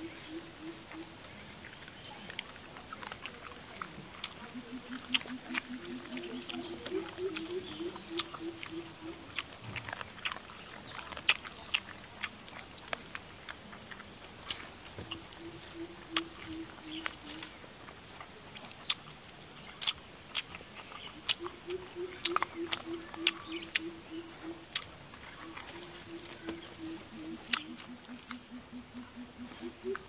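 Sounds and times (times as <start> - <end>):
chewing and lip-smacking: 0.0 - 30.0
high insect drone: 0.0 - 30.0.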